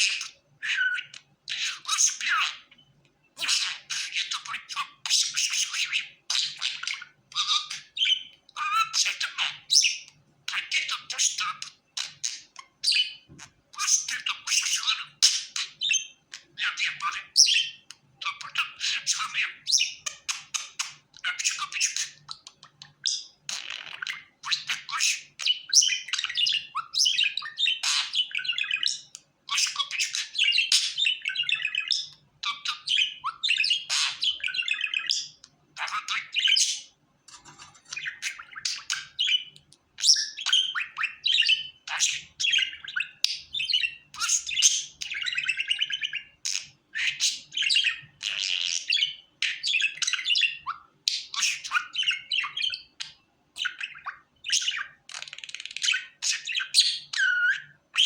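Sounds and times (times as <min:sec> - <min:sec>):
budgerigar chattering and warbling: 0:00.0 - 0:02.8, 0:03.4 - 0:58.0.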